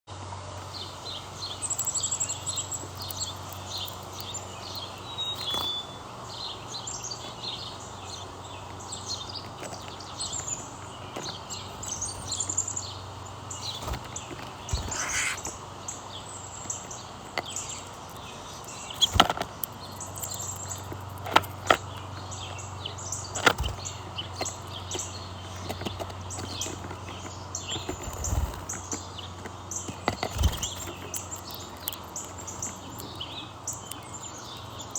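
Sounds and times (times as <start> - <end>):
small birds chirping: 0.6 - 34.9.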